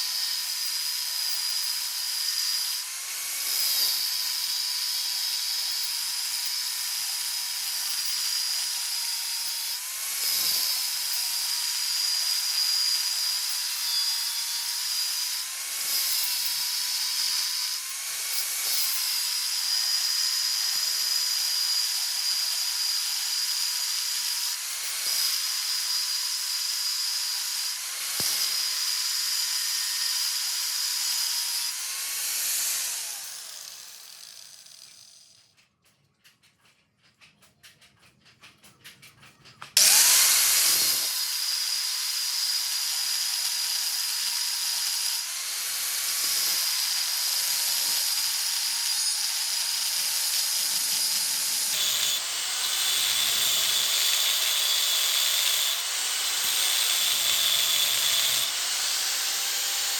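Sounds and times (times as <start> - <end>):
grinder whining on steel: 0.0 - 35.6, 38.8 - 59.9.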